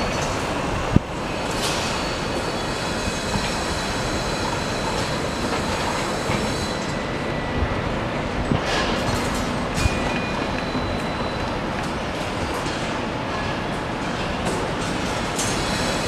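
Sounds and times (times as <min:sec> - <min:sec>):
train running on rails: 0:00.0 - 0:16.0.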